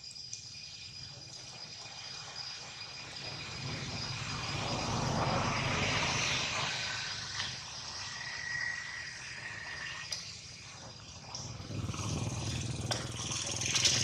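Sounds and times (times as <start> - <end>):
steady high insect tone: 0.0 - 14.0.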